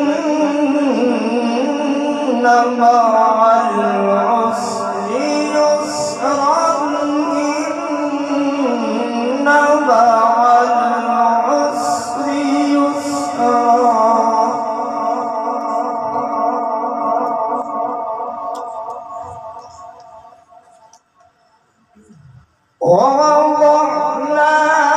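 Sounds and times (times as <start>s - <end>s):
man chanting recitation: 0.0s - 21.0s, 21.9s - 24.9s.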